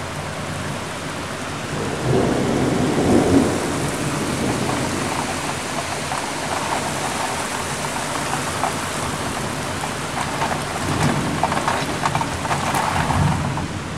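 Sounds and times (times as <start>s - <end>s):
rain hissing: 0.0s - 13.9s
thunder rumbling: 1.6s - 13.9s
close raindrops ticking: 1.9s - 13.9s.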